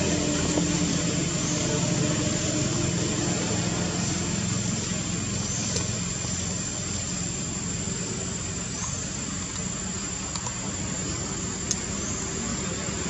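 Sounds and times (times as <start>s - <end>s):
low engine-like hum: 0.0s - 13.0s
thin high whine: 0.0s - 13.0s.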